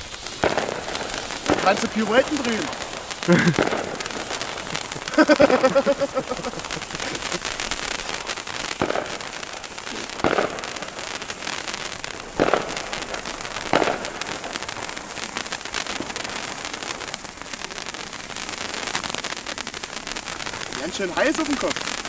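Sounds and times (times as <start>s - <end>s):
sparklers fizzing crackle: 0.0s - 22.0s.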